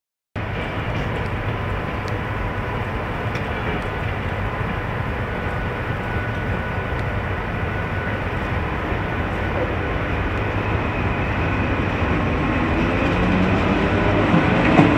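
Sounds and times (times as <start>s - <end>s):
cooling blowers rushing: 0.4s - 14.9s
electric locomotive hum: 0.4s - 14.9s.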